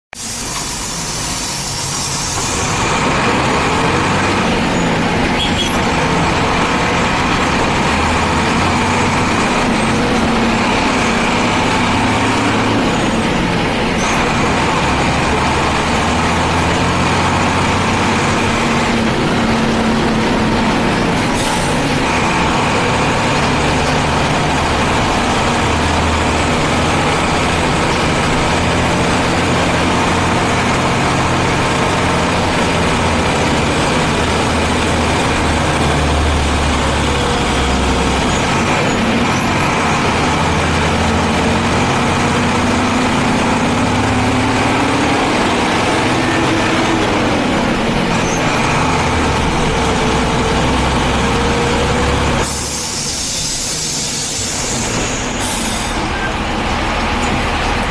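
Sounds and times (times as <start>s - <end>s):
diesel bus engine running: 0.1s - 57.9s.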